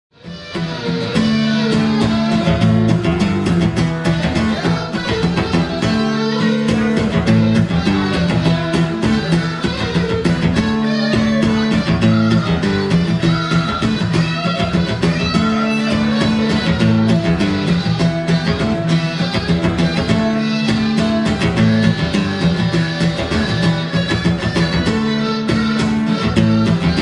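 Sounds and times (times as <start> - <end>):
two guitars playing: 0.2 - 27.0.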